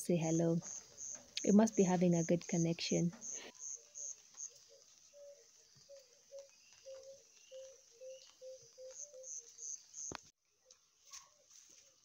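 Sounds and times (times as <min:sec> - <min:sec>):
high insect chirping: 0:00.0 - 0:10.3.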